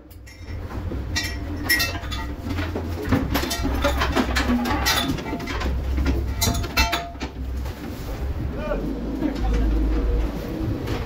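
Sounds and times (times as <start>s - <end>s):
knocks and clatter of buoys: 0.0s - 11.0s
boat engine droning: 0.3s - 11.0s.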